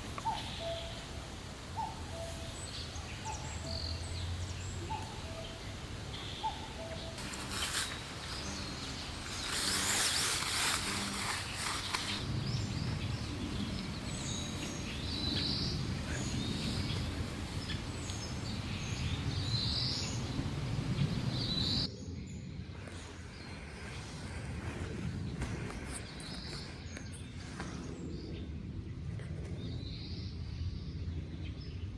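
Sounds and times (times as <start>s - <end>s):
birds chirping: 0.0s - 28.5s
low outdoor background: 0.0s - 31.9s.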